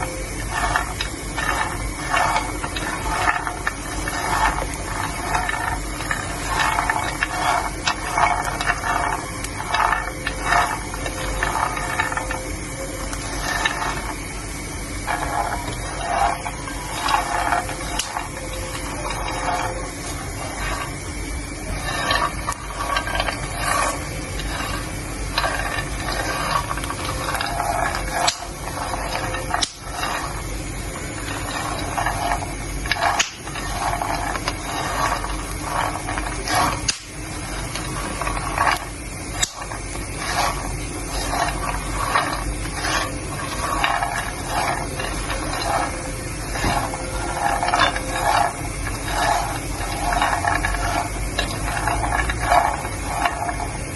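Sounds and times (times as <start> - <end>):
peanuts being stirred: 0.0 - 53.9.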